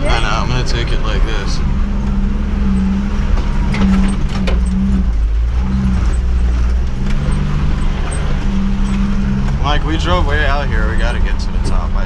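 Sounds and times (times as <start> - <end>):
jeep engine running low: 0.0 - 12.0
knocks and rattles: 2.1 - 11.8.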